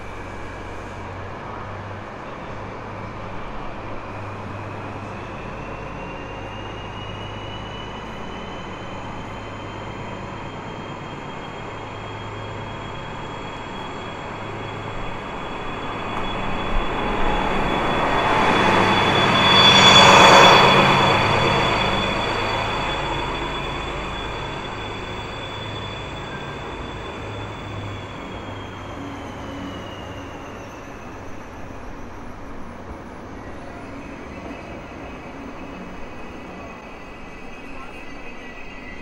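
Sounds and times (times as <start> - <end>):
diesel locomotive pulling away: 0.0 - 39.0.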